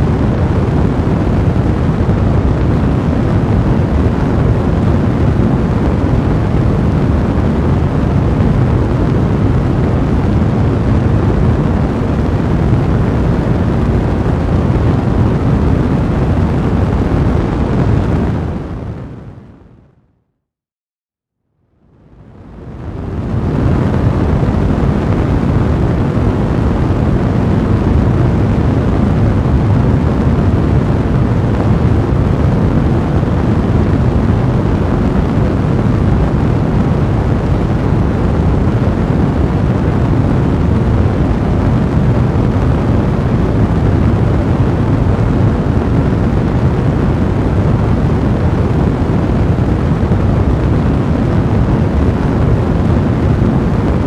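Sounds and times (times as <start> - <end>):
fire rumbling in fireplace: 0.0 - 19.6, 22.1 - 54.0.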